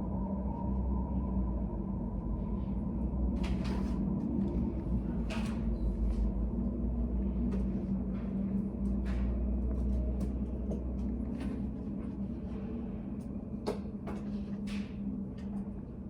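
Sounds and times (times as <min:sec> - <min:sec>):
faint hum: 0:00.0 - 0:16.0
low room rumble: 0:00.0 - 0:16.0.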